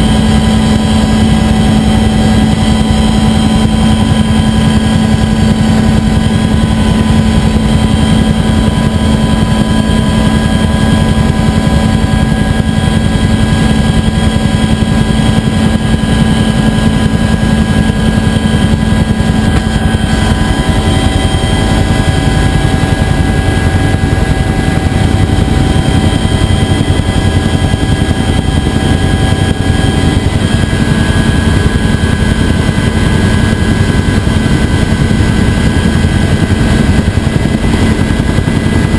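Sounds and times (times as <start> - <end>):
helicopter rotor and engine drone: 0.0 - 38.9
high whining tones: 0.6 - 33.0.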